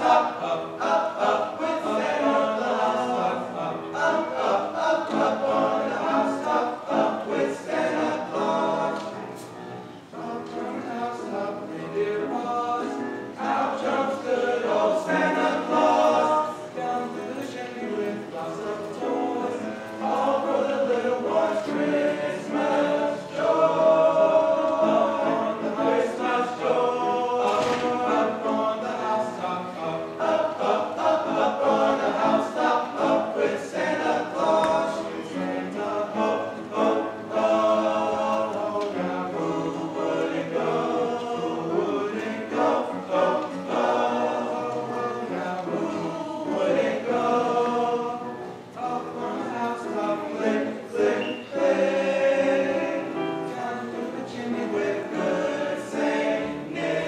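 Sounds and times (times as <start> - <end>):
men's choir singing in harmony: 0.0 - 57.0.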